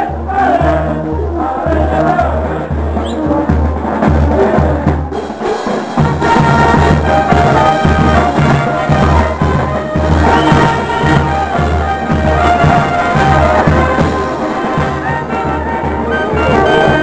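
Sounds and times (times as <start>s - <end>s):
bass drum beat: 0.0s - 17.0s
marching brass band playing: 0.0s - 17.0s
snare drums and cymbals: 0.0s - 17.0s.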